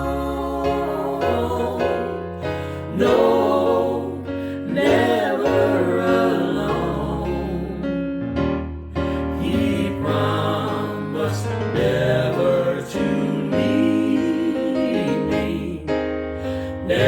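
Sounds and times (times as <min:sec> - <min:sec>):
vocal group singing a hymn: 0:00.0 - 0:08.2, 0:09.0 - 0:17.0
piano accompaniment: 0:00.0 - 0:17.0.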